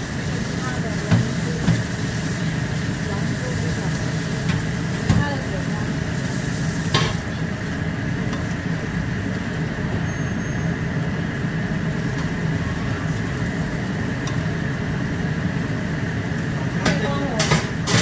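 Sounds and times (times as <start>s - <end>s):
vegetables sizzling in a wok: 0.0s - 18.0s.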